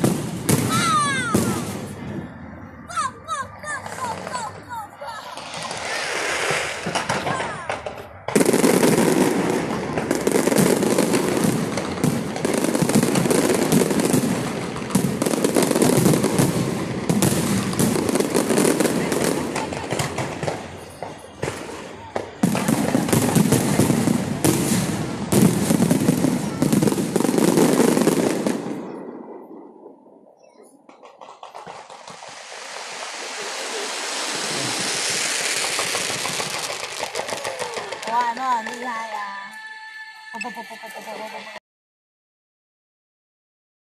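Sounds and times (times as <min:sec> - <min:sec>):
fireworks crackling and bursting: 0:00.0 - 0:39.6.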